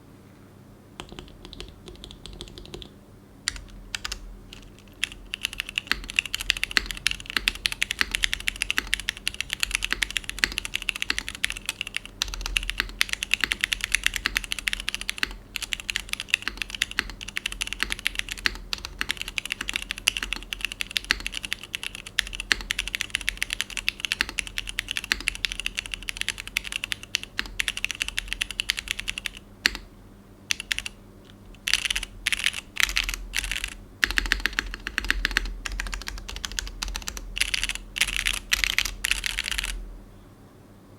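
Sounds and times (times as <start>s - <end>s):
mechanical keyboard typing: 1.0s - 29.9s, 30.5s - 39.8s.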